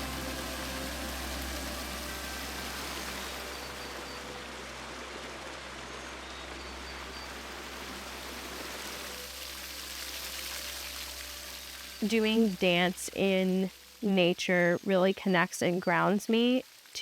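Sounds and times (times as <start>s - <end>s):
running water rushing: 0.0s - 14.9s.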